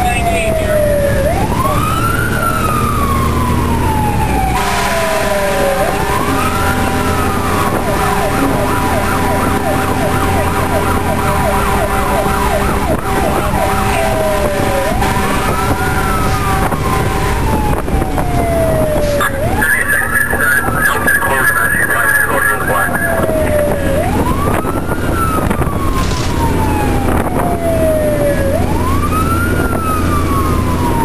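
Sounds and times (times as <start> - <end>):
fire truck siren: 0.0 - 31.0.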